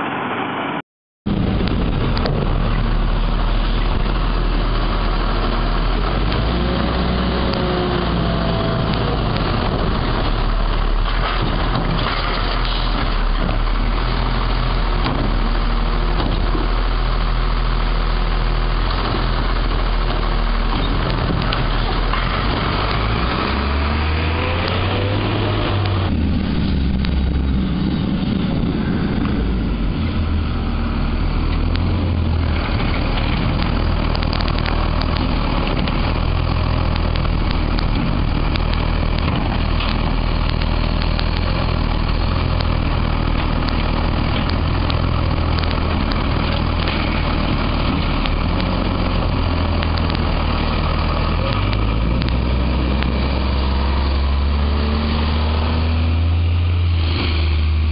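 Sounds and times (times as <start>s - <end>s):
garbage truck diesel engine: 0.0s - 57.9s.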